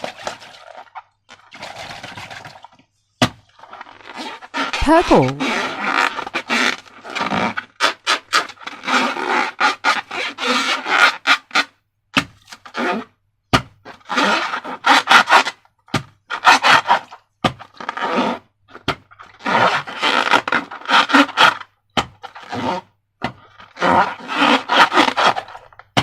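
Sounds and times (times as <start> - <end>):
rubbing and scraping of balloons: 0.0 - 11.8, 12.4 - 26.0.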